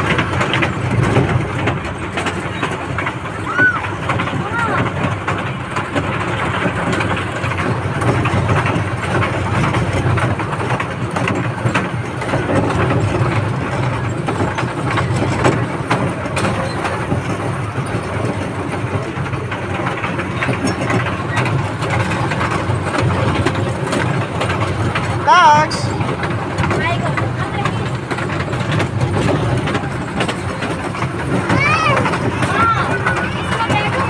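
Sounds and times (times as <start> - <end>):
passenger train rumbling: 0.0 - 34.0
train clicks and rattles: 0.0 - 34.0.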